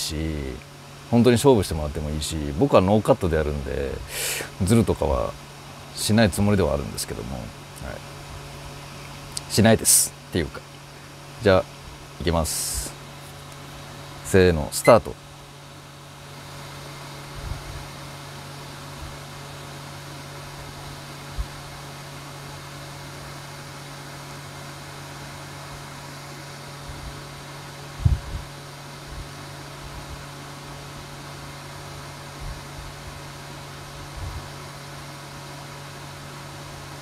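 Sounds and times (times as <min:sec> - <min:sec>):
mechanical hum and hiss: 0:00.0 - 0:37.0.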